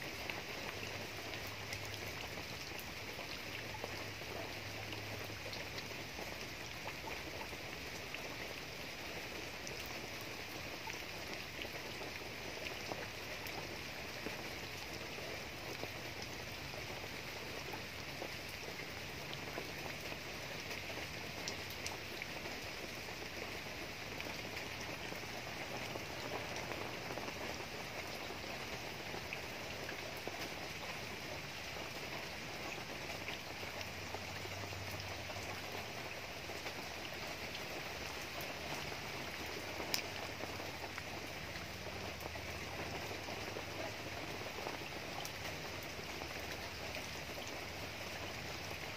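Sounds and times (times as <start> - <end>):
rain falling on foliage: 0.0 - 48.9.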